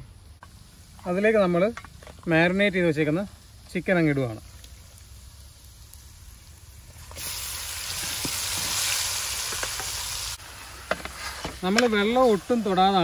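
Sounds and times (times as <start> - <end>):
chicken sizzling in a pan: 0.5 - 13.0.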